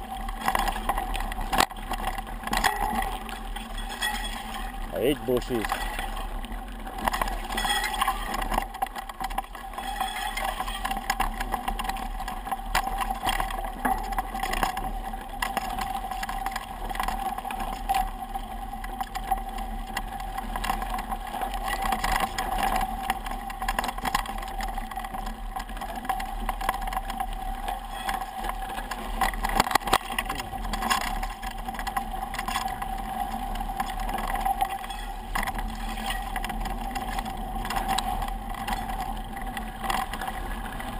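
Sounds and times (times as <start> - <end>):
bike clicks and rattles: 0.0 - 40.9
bike tyres rolling on dirt: 0.0 - 40.9.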